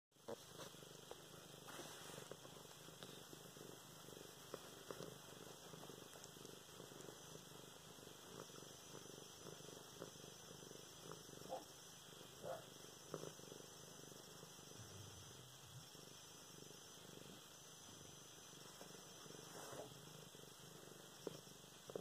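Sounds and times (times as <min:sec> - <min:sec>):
cat purring: 0:00.1 - 0:22.0.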